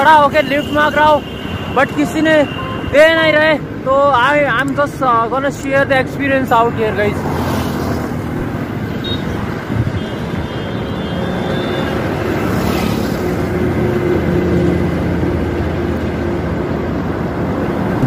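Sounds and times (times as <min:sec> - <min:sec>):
highway traffic passing: 0:00.0 - 0:18.0.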